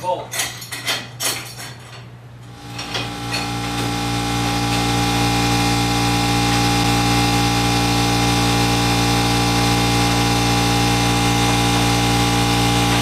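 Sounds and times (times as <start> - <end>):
machine motor humming: 2.5 - 13.0.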